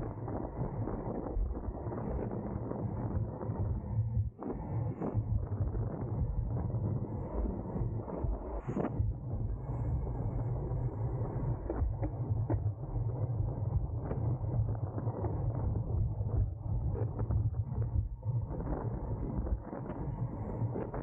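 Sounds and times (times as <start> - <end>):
wind noise: 0.0 - 21.0.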